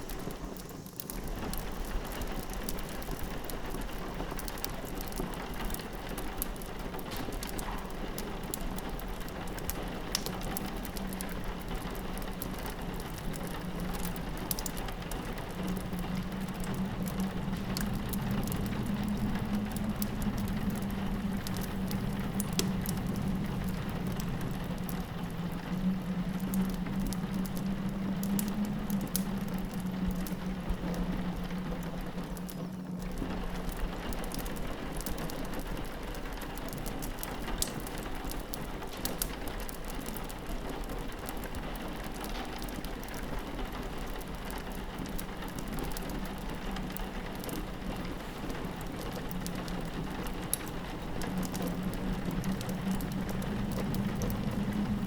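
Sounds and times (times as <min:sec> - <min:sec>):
fireplace crackling and popping: 0:00.0 - 0:55.0
low wind howl: 0:00.0 - 0:55.0
rain pattering against window: 0:00.0 - 0:55.0.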